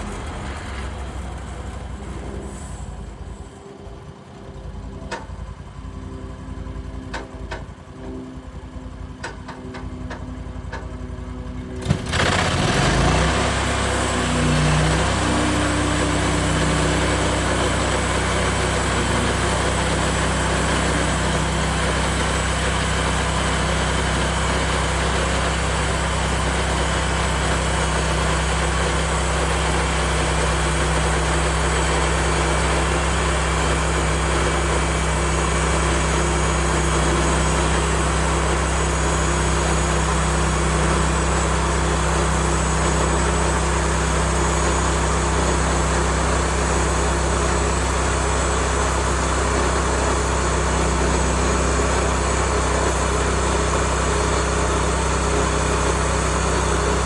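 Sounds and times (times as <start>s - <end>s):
bandsaw mill running: 0.0s - 3.6s, 9.2s - 57.0s
small gas engine drone: 0.0s - 57.0s.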